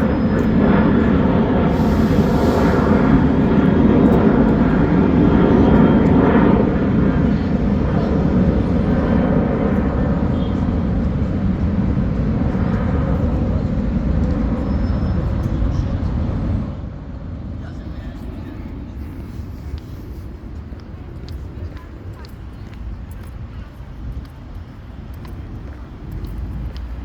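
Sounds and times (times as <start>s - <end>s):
propeller aircraft engine drone: 0.0s - 27.0s.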